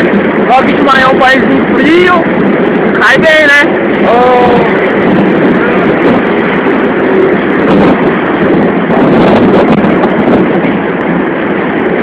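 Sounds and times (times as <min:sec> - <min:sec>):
passing traffic: 0:00.0 - 0:12.0
wind on microphone: 0:00.0 - 0:12.0.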